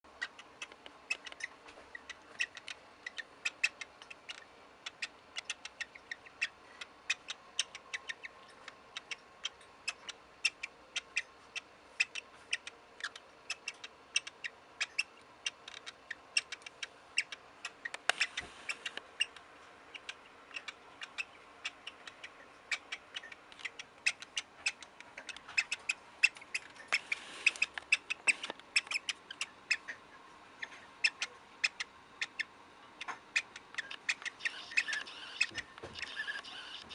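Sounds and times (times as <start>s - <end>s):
cockatiel squeaky clicks: 0.2s - 30.0s, 30.6s - 36.9s.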